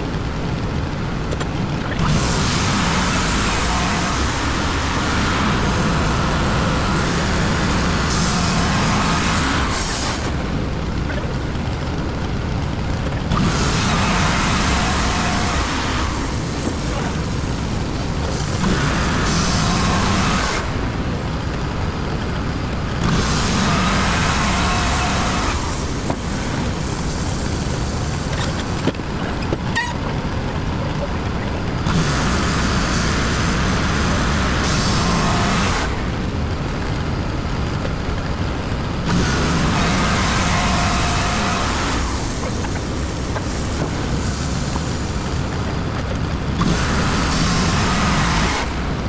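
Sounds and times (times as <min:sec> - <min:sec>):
sawmill gas engine running: 0:00.0 - 0:49.0.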